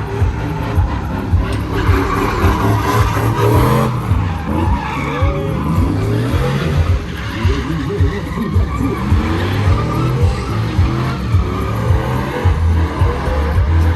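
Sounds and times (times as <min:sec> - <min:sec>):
truck engine revving: 0:00.0 - 0:13.9
tyres spinning and skidding: 0:00.0 - 0:13.9.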